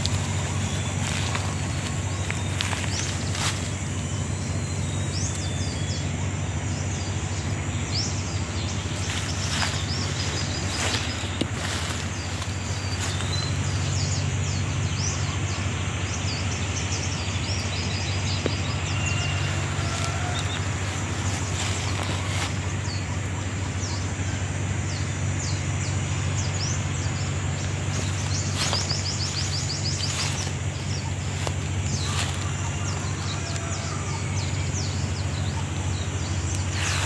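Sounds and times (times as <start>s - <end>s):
low hum and hiss: 0.0s - 37.0s
small birds chirping: 0.0s - 37.0s.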